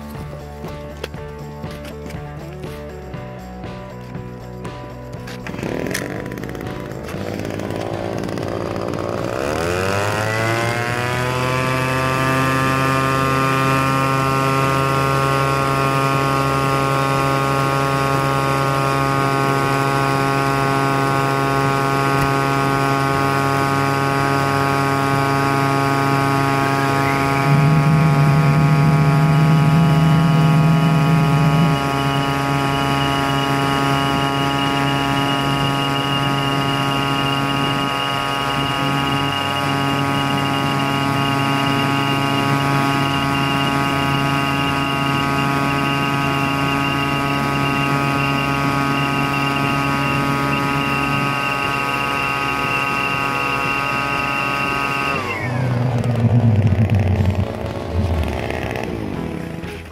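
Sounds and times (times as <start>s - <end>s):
turbojet engine whine and roar: 0.0s - 59.9s.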